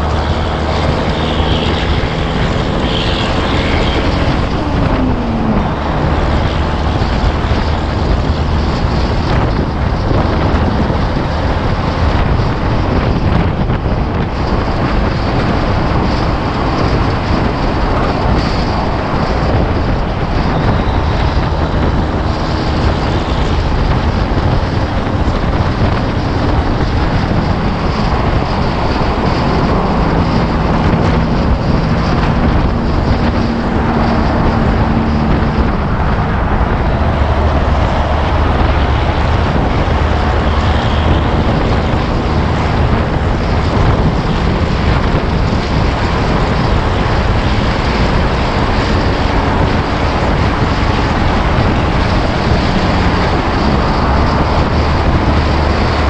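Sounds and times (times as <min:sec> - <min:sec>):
diesel truck engine drone: 0:00.0 - 0:56.0
wind and road noise: 0:00.0 - 0:56.0.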